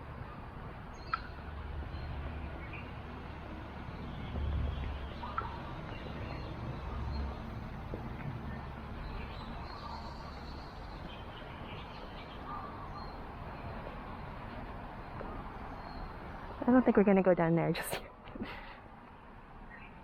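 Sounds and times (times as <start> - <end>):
birds chirping: 0.0 - 17.4
steady outdoor hiss: 0.0 - 20.0.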